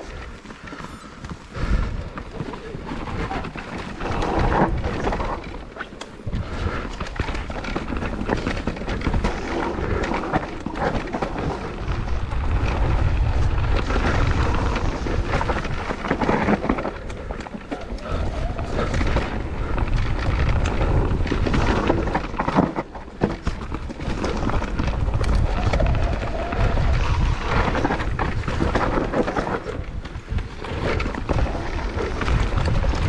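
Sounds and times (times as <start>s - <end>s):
bike rattling and knocking: 0.0s - 33.0s
bike tyres rolling over dirt: 0.0s - 33.0s
wind rumbling on microphone: 0.0s - 33.0s.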